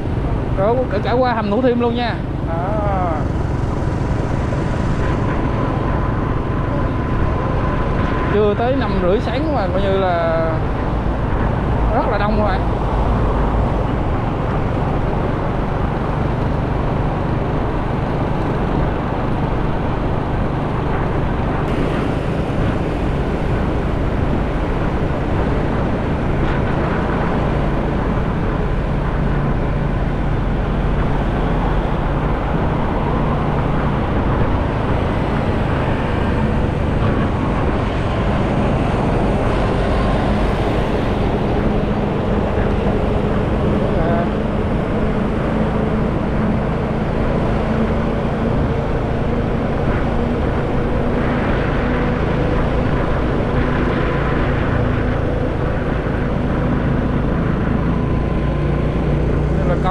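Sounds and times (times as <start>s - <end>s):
motorcycle engine humming: 0.0s - 59.9s
surrounding traffic noise: 0.0s - 59.9s
wind rushing on microphone: 0.0s - 59.9s.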